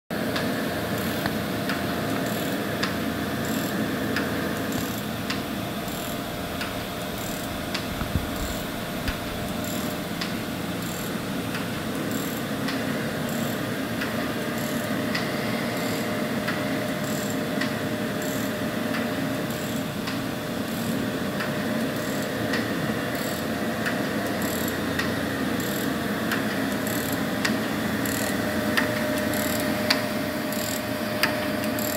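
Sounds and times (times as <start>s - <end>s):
grinder machine hum: 0.2s - 31.9s
light mechanical ticking: 0.3s - 31.9s
mechanism clicks: 0.3s - 31.9s.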